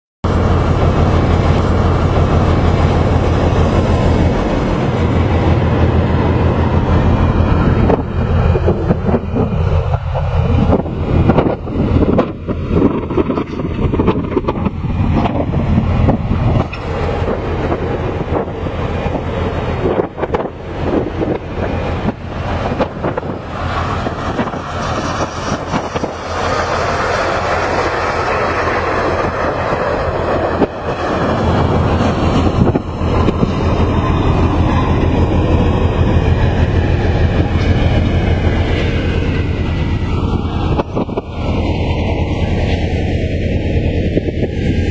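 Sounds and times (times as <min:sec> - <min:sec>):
heavy vehicle rumbling: 0:00.2 - 0:44.9.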